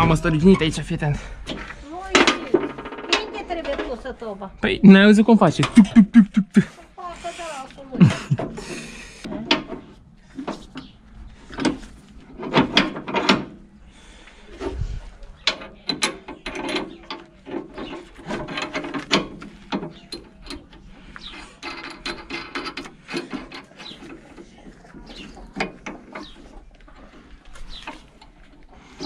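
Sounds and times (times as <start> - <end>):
steel clanks and scraping: 0.0 - 4.4, 5.3 - 6.0, 7.1 - 13.7, 14.5 - 29.0.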